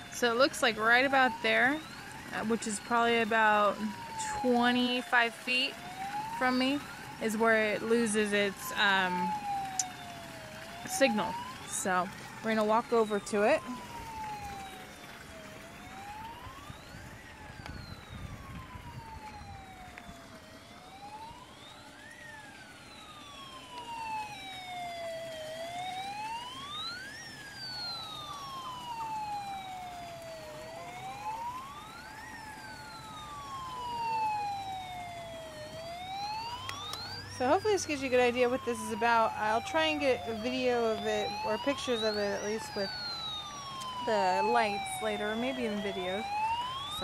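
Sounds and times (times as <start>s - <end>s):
toy siren wailing: 0.0s - 47.0s.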